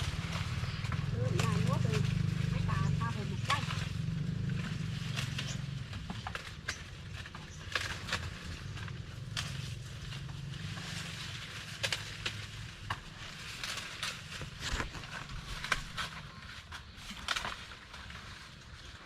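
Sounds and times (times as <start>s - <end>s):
dry corn plants rustling and snapping: 0.0s - 19.0s.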